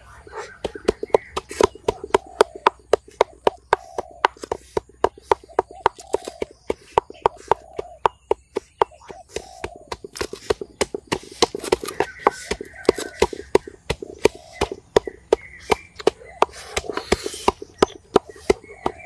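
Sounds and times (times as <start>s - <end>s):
sharp knocks: 0.5s - 19.0s.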